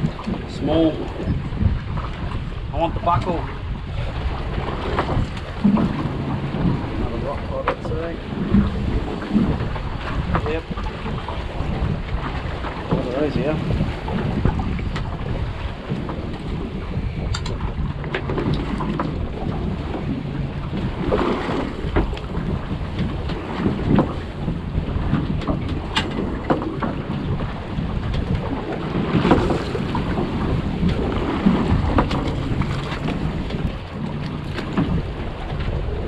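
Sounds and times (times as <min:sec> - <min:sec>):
sea water noise: 0:00.0 - 0:36.0
wind buffeting microphone: 0:00.0 - 0:36.0.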